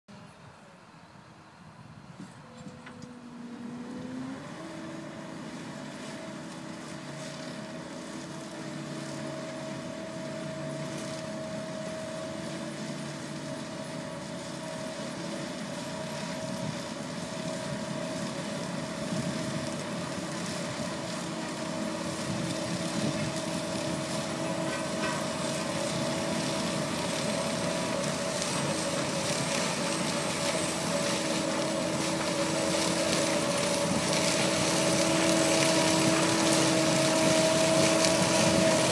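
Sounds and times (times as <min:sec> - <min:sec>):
harvester engine drone: 0:00.1 - 0:38.9
machinery whine: 0:00.1 - 0:38.9.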